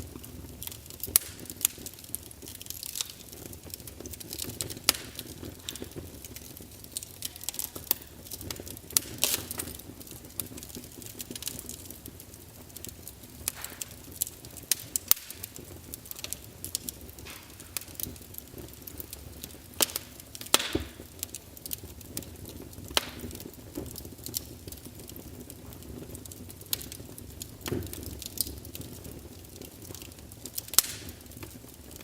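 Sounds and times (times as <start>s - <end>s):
log fire crackling and popping: 0.0s - 32.0s.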